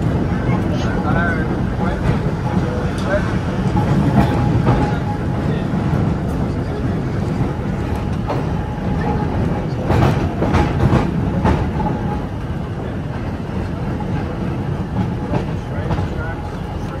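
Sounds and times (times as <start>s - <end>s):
tram rumbling on rails: 0.0s - 17.0s
wheels clacking over rail joints: 0.0s - 17.0s.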